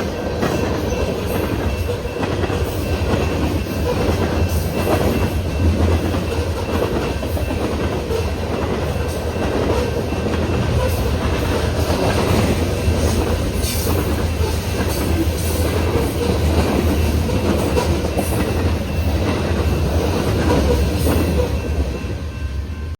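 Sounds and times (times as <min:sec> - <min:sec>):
train rumbling on rails: 0:00.0 - 0:22.9.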